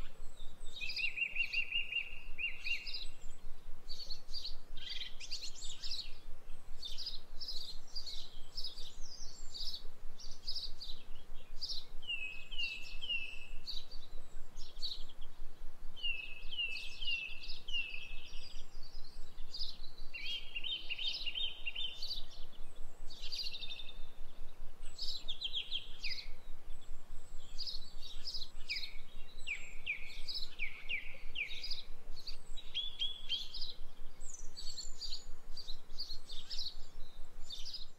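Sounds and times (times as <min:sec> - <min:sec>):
songbirds chirping: 0:00.0 - 0:37.9.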